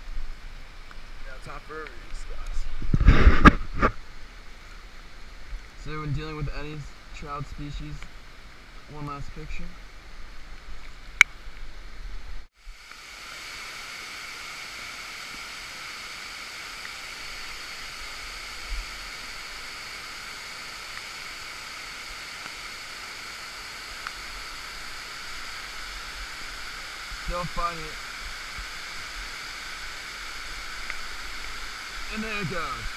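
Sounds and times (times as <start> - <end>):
stream water running: 0.0 - 32.9
rain pouring: 4.0 - 32.9.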